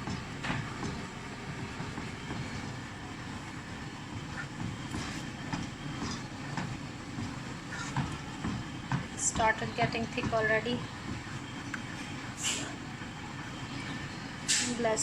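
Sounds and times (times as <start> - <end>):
low kitchen rumble: 0.0 - 15.0.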